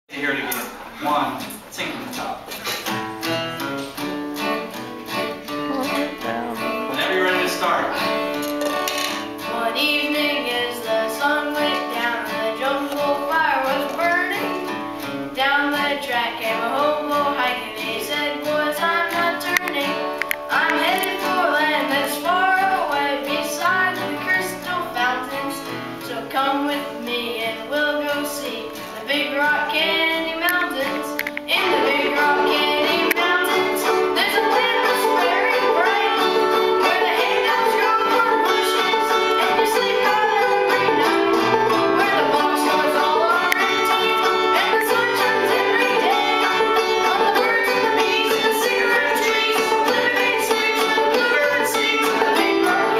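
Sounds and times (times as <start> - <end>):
acoustic guitar: 0.1 - 52.9
banjo: 0.1 - 52.9
boy singing: 4.4 - 8.2, 9.4 - 52.9.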